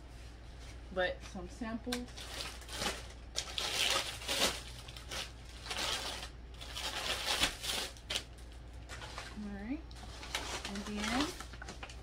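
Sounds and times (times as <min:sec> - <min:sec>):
packaging rustling and crinkling: 0:02.1 - 0:12.0.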